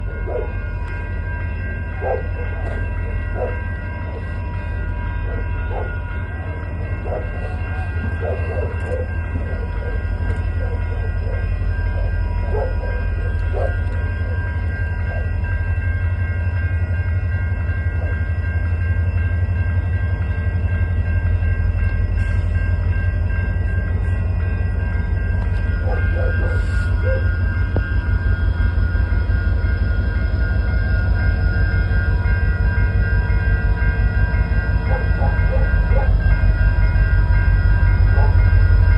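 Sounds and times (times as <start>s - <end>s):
high-pitched ringing tones: 0.0s - 38.9s
train wheels rumbling on rail: 0.0s - 38.9s.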